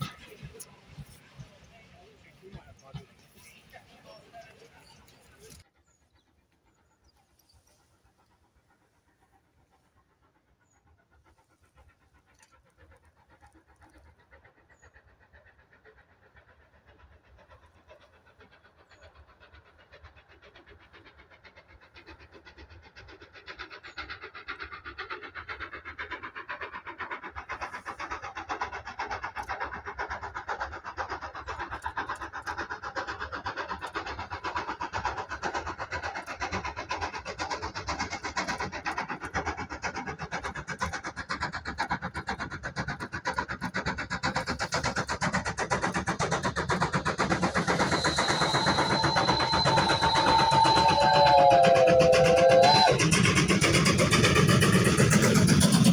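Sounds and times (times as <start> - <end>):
steam locomotive chuffing: 0.0 - 55.9.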